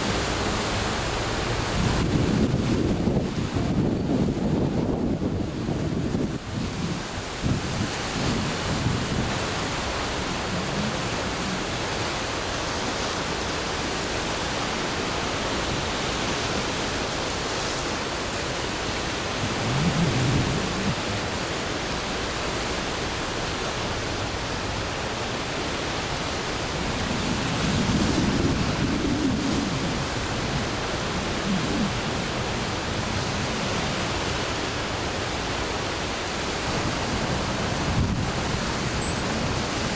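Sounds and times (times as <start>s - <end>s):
river rushing roar: 0.0s - 39.9s.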